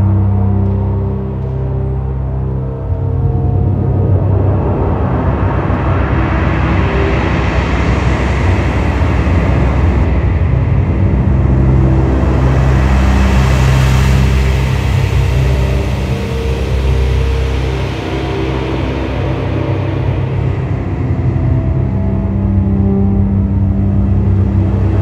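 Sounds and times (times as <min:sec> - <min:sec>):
low synthesizer drone: 0:00.0 - 0:25.0
hissing noise wash: 0:02.0 - 0:25.0.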